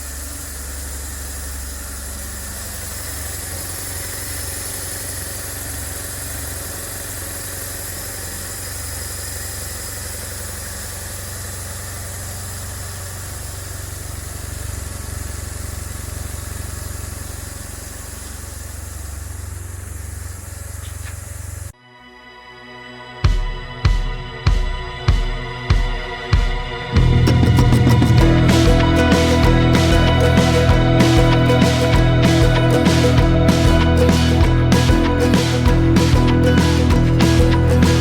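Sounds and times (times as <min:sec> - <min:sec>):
motorcycle engine idling: 0:00.0 - 0:21.8, 0:26.4 - 0:38.0.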